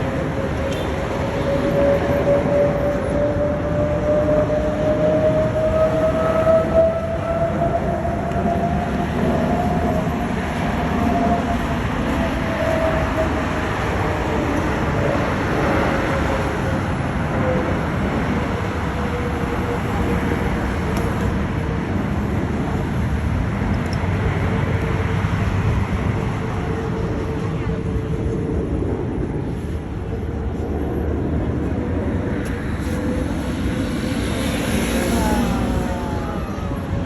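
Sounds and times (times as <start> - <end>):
aircraft engine roar with falling whine: 0.0 - 37.0.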